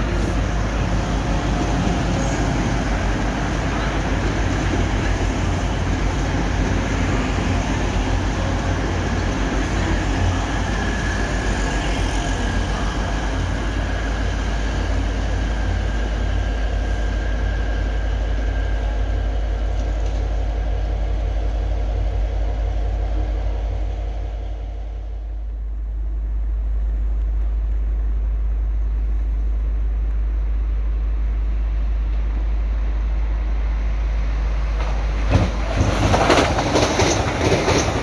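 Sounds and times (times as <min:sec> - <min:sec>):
train wheels on rails: 0:00.0 - 0:25.4, 0:31.6 - 0:38.0
diesel train engines droning: 0:00.0 - 0:38.0.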